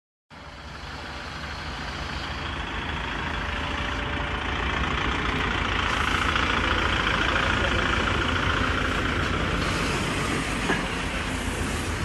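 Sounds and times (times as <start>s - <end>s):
tractor diesel engine running: 0.3s - 12.0s.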